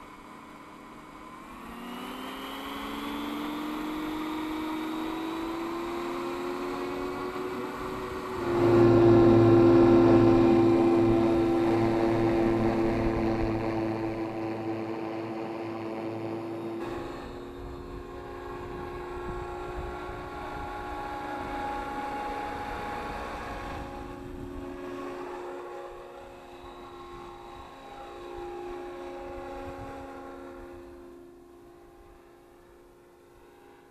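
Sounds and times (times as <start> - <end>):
rc helicopter whine: 0.0 - 33.9.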